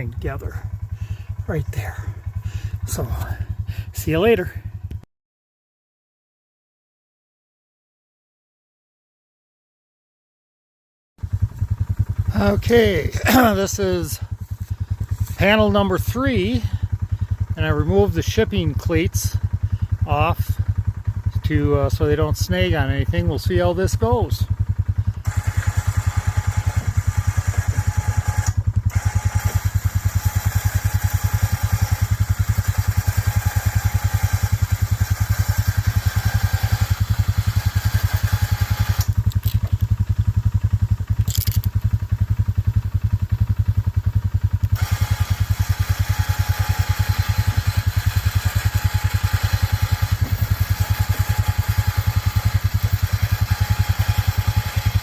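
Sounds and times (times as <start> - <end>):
small engine idling: 0.0 - 5.0, 11.2 - 55.0.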